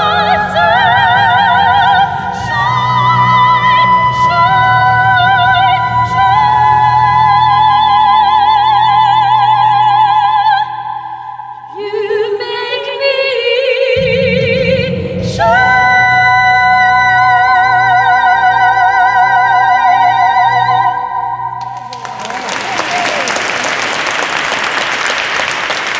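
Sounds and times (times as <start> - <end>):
women singing operatic duet: 0.0 - 21.6
lower voice singing: 0.0 - 21.9.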